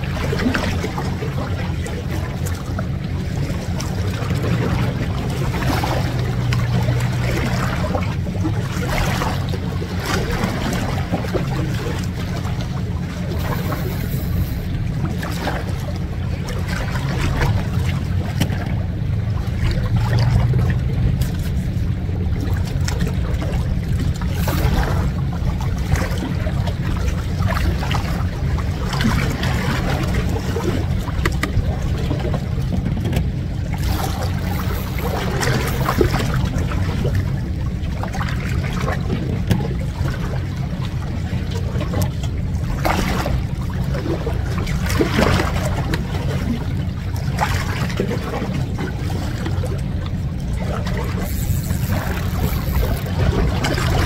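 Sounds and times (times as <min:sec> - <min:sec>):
seawater lapping against rocks: 0:00.0 - 0:54.0
steady low rumble: 0:00.0 - 0:54.0.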